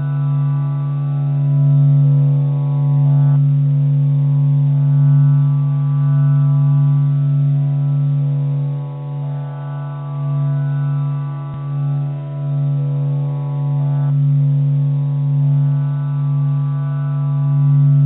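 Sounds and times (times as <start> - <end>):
low drone with overtones: 0.0 - 18.0.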